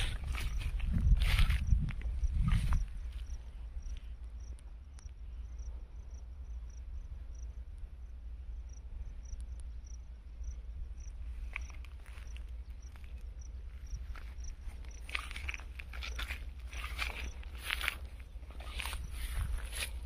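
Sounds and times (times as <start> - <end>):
cricket chirping: 0.0 - 20.0
low steady rumble: 0.0 - 20.0.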